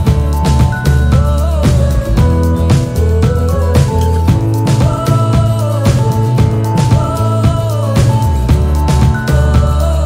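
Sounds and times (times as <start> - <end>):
upbeat music with drums and bass: 0.0 - 10.0.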